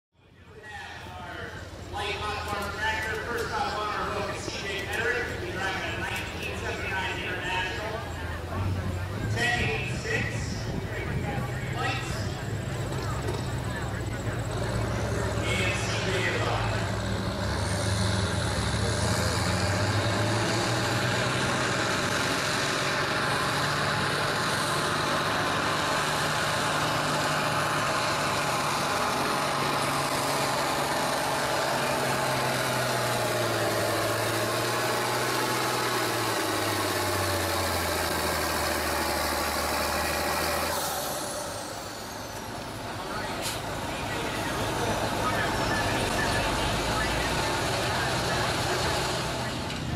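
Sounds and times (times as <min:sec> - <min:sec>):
tractor engine under load: 0:00.2 - 0:49.9.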